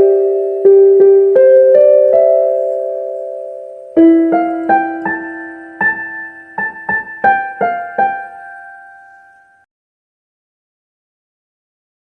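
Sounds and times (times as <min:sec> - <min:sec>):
slow solo piano melody: 0:00.0 - 0:09.7.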